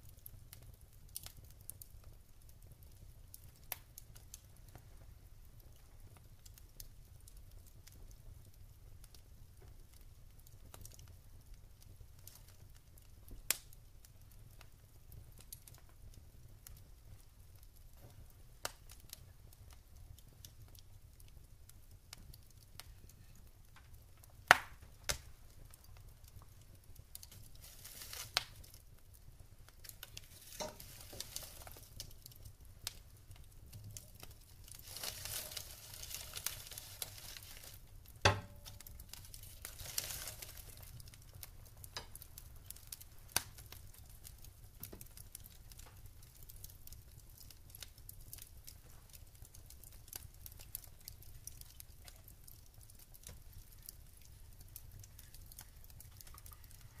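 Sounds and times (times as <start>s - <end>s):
sharp pops of fire: 0.0s - 4.9s, 5.6s - 57.0s
logs crackling in fireplace: 0.0s - 57.0s
soft hissing of fire: 0.0s - 57.0s.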